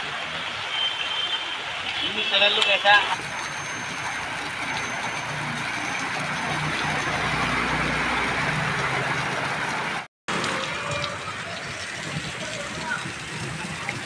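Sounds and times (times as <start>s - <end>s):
tyres splashing through water: 0.0s - 14.0s.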